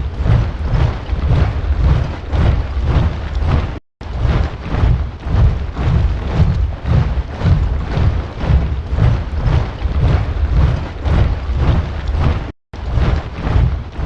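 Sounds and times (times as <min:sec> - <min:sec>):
soldiers marching in step: 0:00.0 - 0:14.0.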